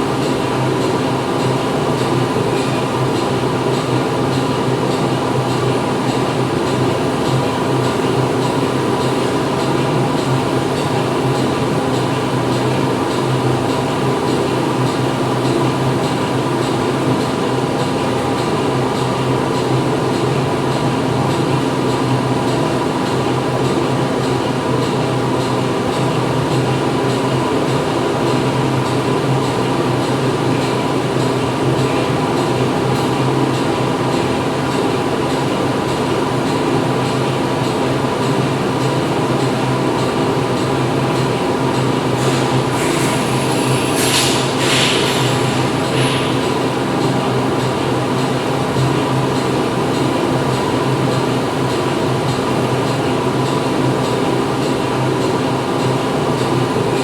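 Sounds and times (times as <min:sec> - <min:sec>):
factory machinery humming: 0:00.0 - 0:57.0.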